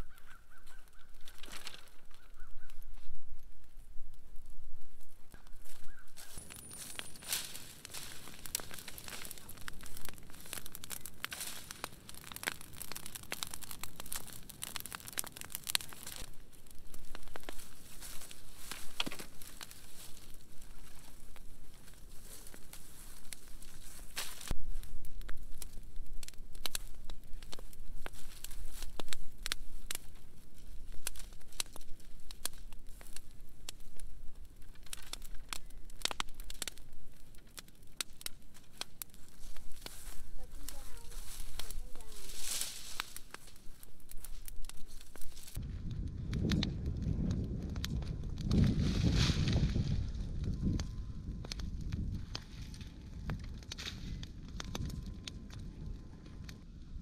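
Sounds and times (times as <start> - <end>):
dry branches snapping: 0.0 - 3.1, 5.3 - 56.6
fire crackling and popping: 0.0 - 57.0.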